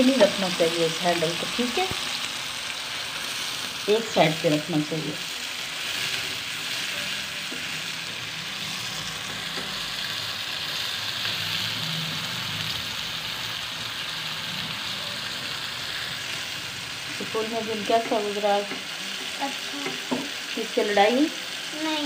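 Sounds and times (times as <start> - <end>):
vegetables sizzling in a frying pan: 0.0 - 22.0.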